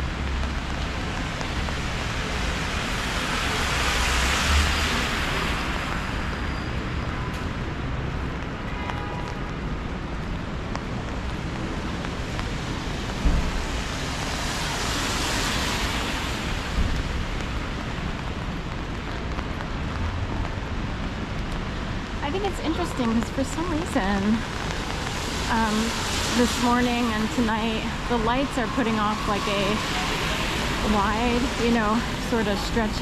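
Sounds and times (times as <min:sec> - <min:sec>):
car tyres hissing on wet street: 0:00.0 - 0:10.0, 0:10.9 - 0:33.0
steady rain: 0:00.0 - 0:33.0.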